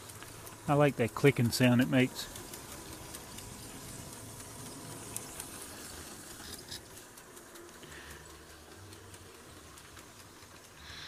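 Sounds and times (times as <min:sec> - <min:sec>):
light irregular clicking: 0:00.0 - 0:11.0
toy train motor humming: 0:00.0 - 0:11.0.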